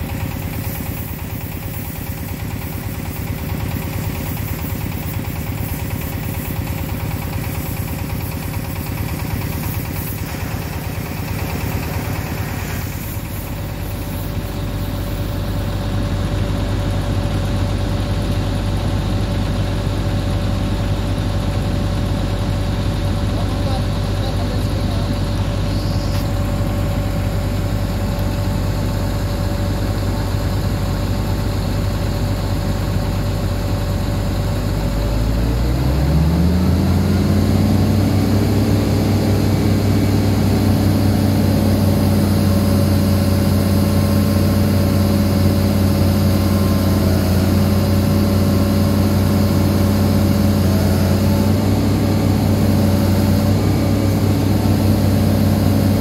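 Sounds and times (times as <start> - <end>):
excavator diesel engine idling and revving: 0.0 - 56.0.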